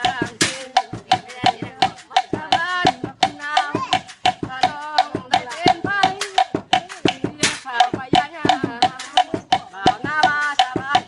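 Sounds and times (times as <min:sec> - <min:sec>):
tapped percussion beat: 0:00.0 - 0:11.0.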